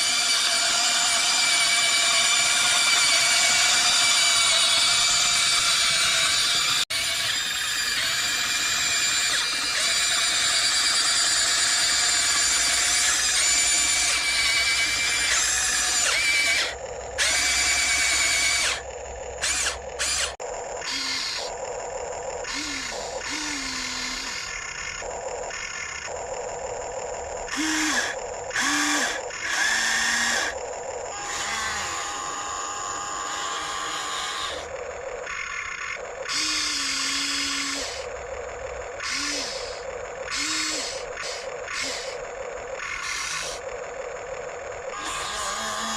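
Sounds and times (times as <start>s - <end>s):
small electric motors whining: 0.0s - 45.9s.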